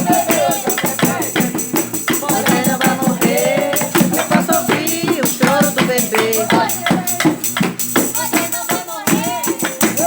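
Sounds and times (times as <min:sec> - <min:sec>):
group singing: 0:00.0 - 0:10.0
hand percussion beat: 0:00.0 - 0:10.0.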